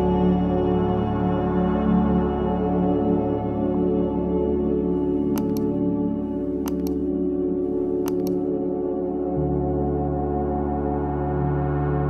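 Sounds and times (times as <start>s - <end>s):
ambient music with held tones: 0.0s - 12.0s.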